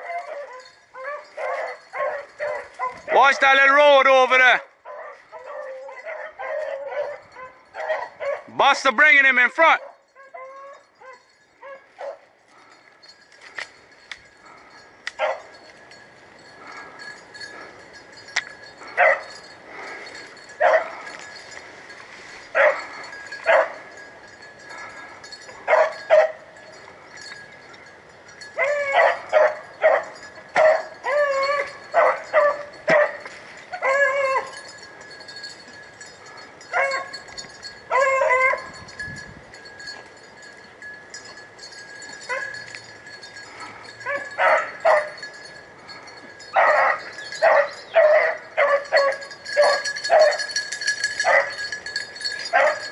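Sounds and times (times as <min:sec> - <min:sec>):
hounds baying: 0:00.0 - 0:08.6, 0:09.8 - 0:52.9.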